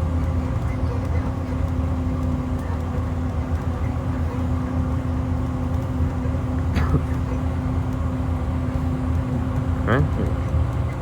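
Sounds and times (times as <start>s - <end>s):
diesel bus engine humming: 0.0s - 11.0s.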